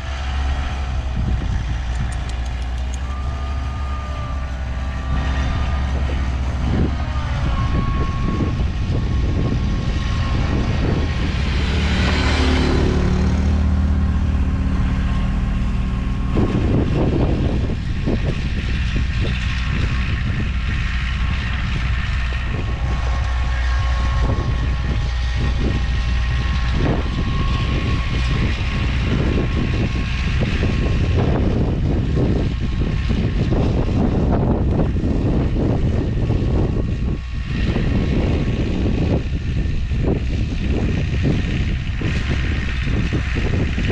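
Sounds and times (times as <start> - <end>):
faint whine: 0.0 - 43.9
snow plow engine droning: 0.0 - 43.9.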